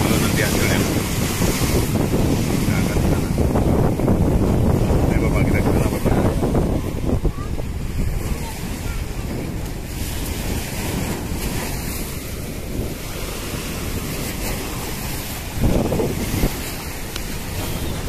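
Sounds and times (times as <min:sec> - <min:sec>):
sea waves breaking on shore: 0:00.0 - 0:18.0
wind buffeting microphone: 0:00.0 - 0:18.0.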